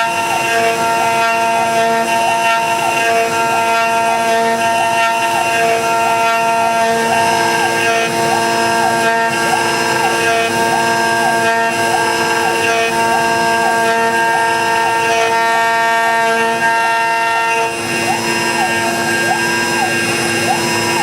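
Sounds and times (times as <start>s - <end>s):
router machine whine: 0.0s - 21.0s.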